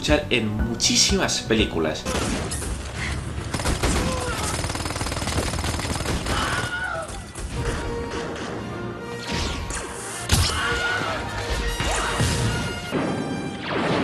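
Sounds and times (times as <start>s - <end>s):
film music: 0.0s - 14.0s.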